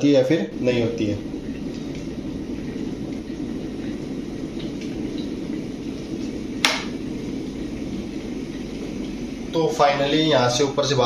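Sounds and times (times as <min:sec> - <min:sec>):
water boiling in a kettle: 0:00.0 - 0:11.0.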